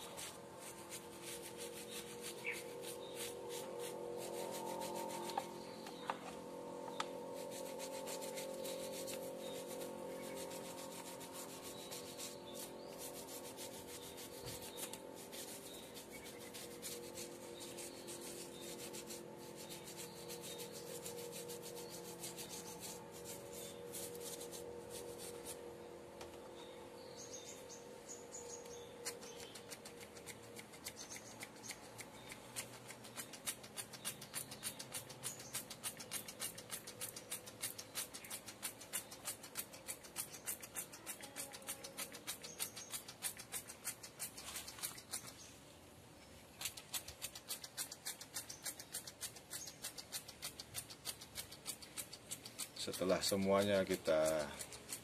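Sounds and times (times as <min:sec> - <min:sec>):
toothbrush scrubbing bark: 0:00.0 - 0:05.5, 0:07.2 - 0:25.6, 0:29.1 - 0:45.5, 0:46.6 - 0:55.0
steady tonal hum: 0:00.0 - 0:46.6.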